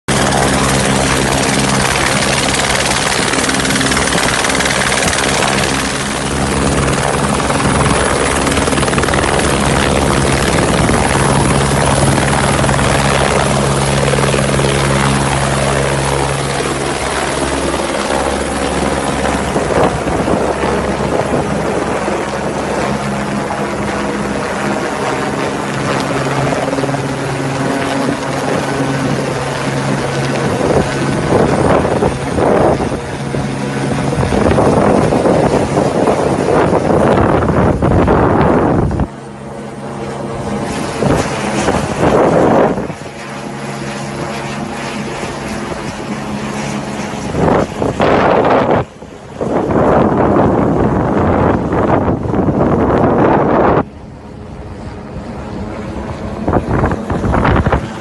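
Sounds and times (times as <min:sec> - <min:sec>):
helicopter in flight: 0:00.0 - 0:58.0.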